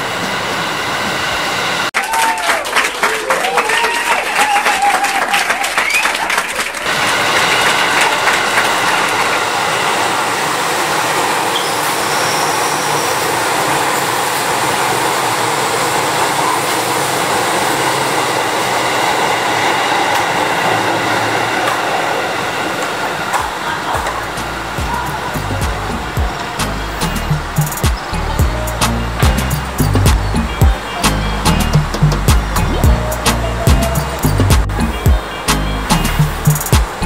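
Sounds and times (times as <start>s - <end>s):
train wheels rushing on rail: 0.0s - 2.6s, 3.6s - 37.0s.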